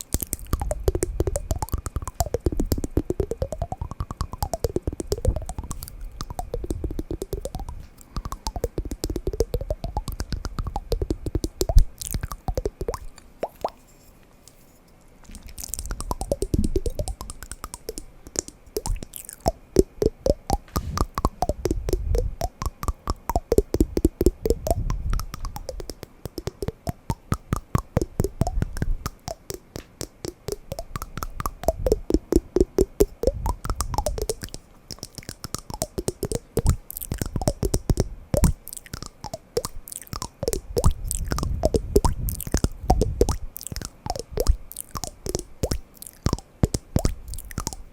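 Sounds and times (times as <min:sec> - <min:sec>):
wooden blocks knocking: 0:00.1 - 0:13.6, 0:15.8 - 0:47.8.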